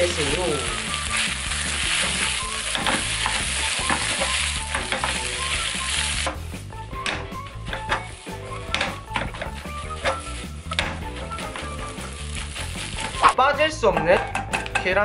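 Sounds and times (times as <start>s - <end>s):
food sizzling in oiled pan: 0.0s - 13.4s.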